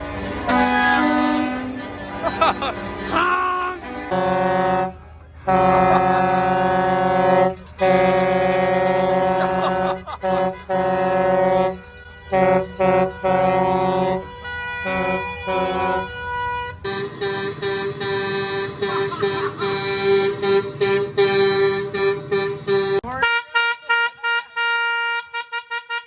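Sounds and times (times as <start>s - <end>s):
truck air horns honking: 0.0s - 26.0s.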